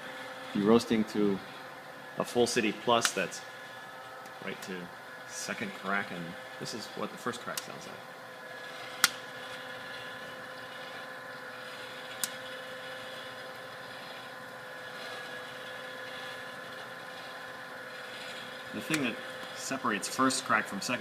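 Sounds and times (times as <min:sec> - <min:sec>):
roaster humming: 0:00.0 - 0:21.0.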